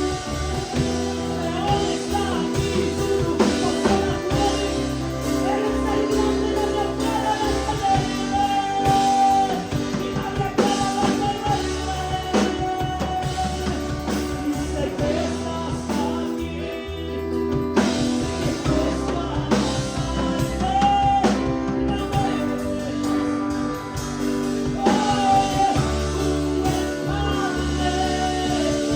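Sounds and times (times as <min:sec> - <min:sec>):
drum kit: 0:00.0 - 0:28.9
guitar: 0:00.0 - 0:28.9
sung chorus: 0:00.0 - 0:28.9.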